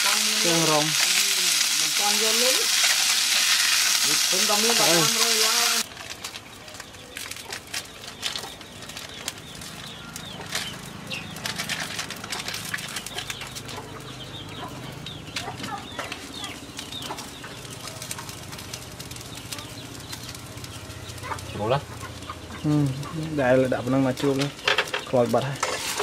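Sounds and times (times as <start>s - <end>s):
birds chirping: 0.0s - 26.0s
faint crackling: 0.0s - 26.0s.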